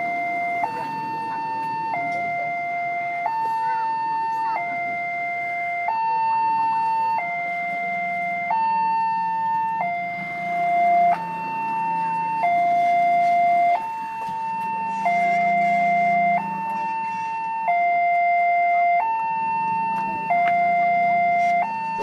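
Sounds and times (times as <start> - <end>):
level crossing two-tone alarm: 0.0 - 22.0.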